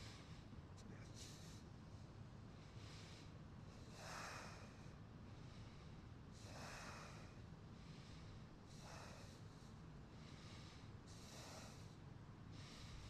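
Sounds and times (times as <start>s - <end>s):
person breathing slowly: 0.0s - 1.8s, 2.5s - 13.0s
low room hum: 0.0s - 13.0s.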